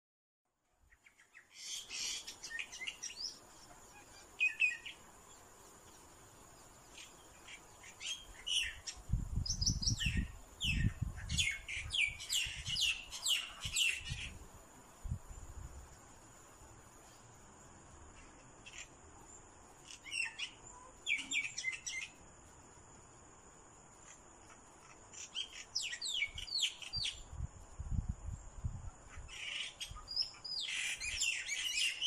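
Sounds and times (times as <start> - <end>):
small birds chirping: 0.8 - 32.0.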